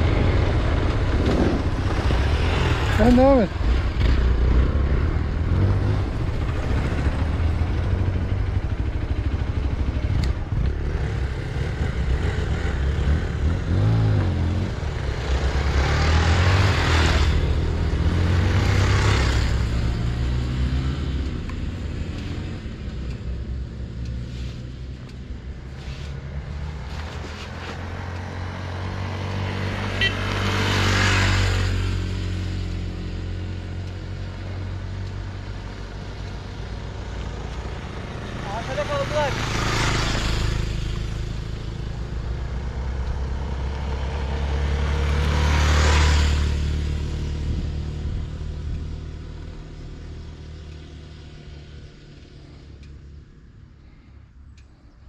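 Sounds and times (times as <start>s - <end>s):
motorcycle engine revving: 0.0s - 53.1s.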